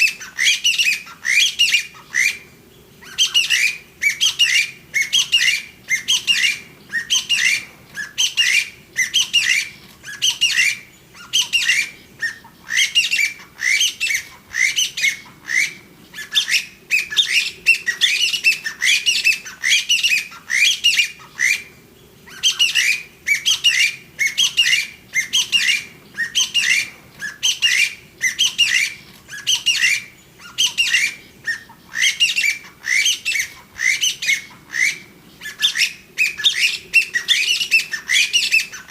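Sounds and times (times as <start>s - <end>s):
partridge calling shrill notes: 3.0s - 21.7s, 22.3s - 38.9s.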